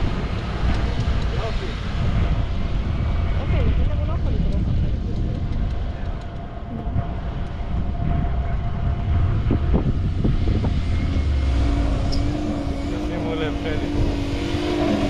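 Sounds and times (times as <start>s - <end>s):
engine low rumble: 0.0s - 15.0s
steady hum: 0.0s - 15.0s.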